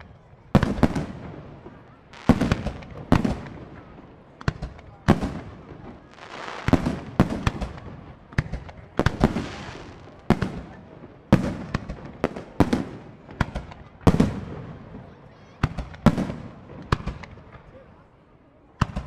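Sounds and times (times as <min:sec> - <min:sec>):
fireworks bursting: 0:00.4 - 0:17.7.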